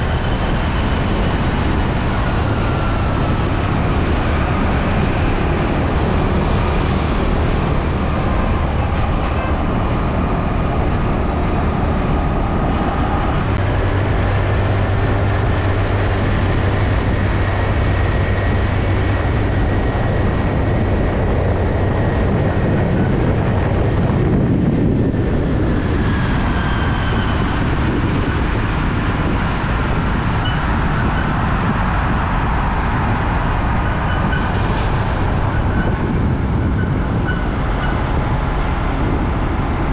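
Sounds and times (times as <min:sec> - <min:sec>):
passing vehicle whines: 0:00.0 - 0:39.9
traffic rumble of engines and tyres: 0:00.0 - 0:39.9.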